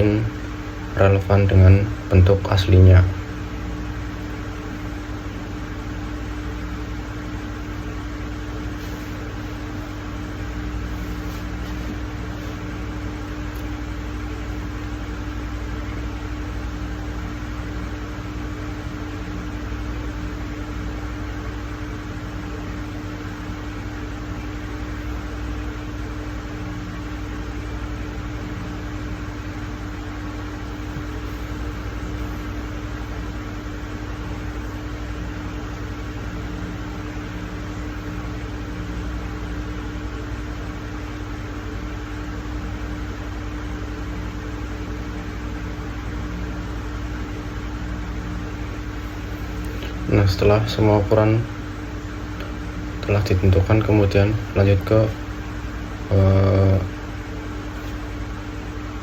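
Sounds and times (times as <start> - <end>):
background hum and hiss: 0.0 - 59.0.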